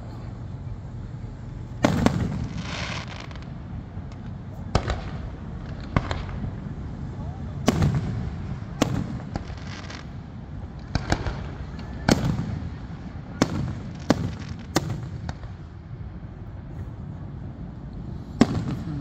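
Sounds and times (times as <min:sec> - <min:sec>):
fireworks banging: 0:01.6 - 0:16.2, 0:18.4 - 0:19.0.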